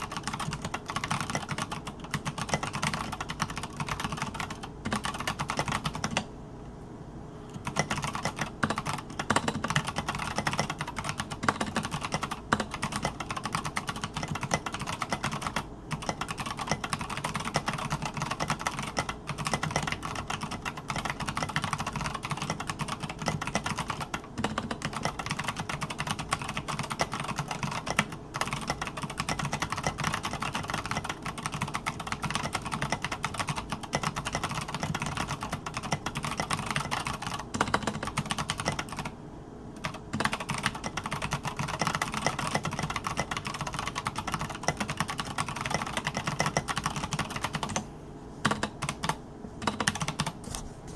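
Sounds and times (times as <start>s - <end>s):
mechanical keyboard typing: 0.0s - 6.3s, 7.5s - 39.2s, 39.8s - 50.4s.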